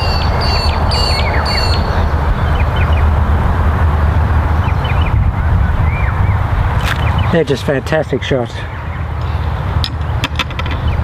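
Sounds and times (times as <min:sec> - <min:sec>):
birds chirping: 0:00.0 - 0:03.3, 0:04.1 - 0:11.0
wind rumbling on microphone: 0:00.0 - 0:11.0.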